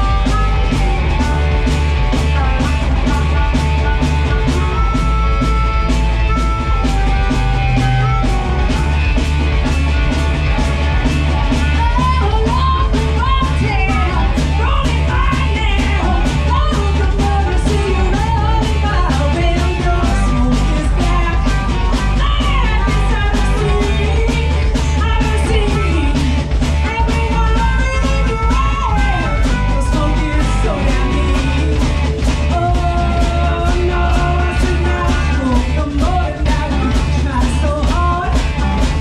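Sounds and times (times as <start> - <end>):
drum kit beat: 0.0 - 39.0
lead guitar bending notes: 0.0 - 39.0
rock band playing: 0.0 - 39.0.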